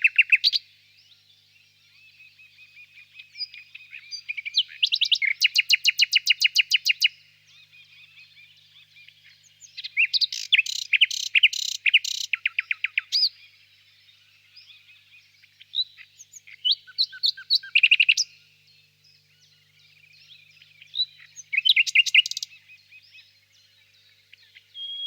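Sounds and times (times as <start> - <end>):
faint chirping of other birds: 0.0 - 25.0
nightingale singing: 0.0 - 25.0.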